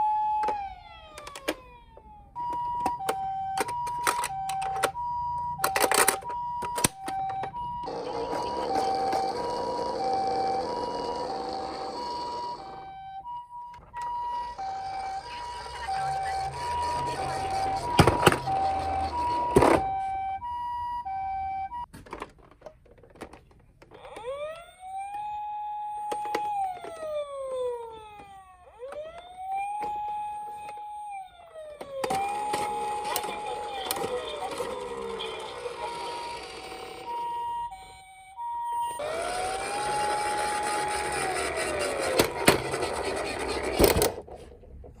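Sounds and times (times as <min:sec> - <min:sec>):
toy siren wailing: 0:00.0 - 0:21.9, 0:23.9 - 0:44.2
toy two-tone siren: 0:00.0 - 0:21.9, 0:23.9 - 0:44.2.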